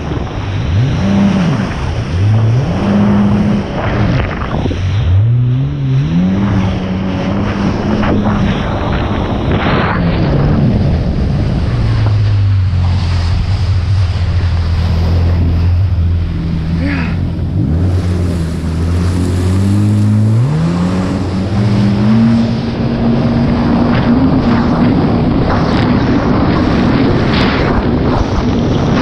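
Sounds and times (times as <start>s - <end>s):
jet ski engine running: 0.0s - 29.0s
wind rushing: 0.0s - 29.0s.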